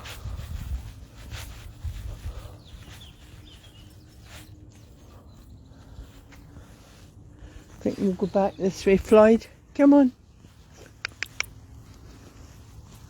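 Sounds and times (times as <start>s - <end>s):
footsteps: 0.0s - 13.0s.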